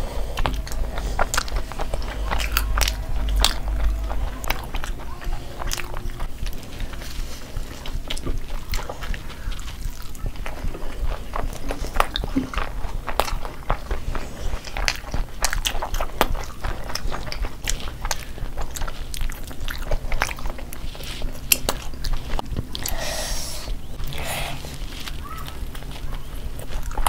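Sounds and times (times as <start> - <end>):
people biting and chewing food: 0.0 - 27.0.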